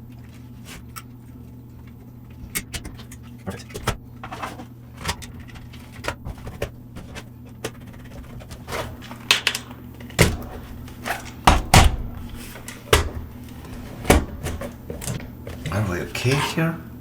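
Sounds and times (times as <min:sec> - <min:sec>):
plastic parts clicking and knocking: 0:01.8 - 0:16.5.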